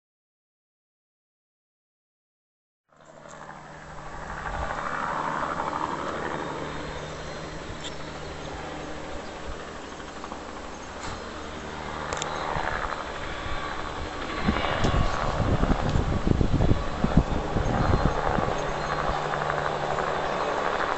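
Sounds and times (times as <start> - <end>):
aircraft droning overhead: 2.9 - 20.9
low engine hum: 3.0 - 20.9.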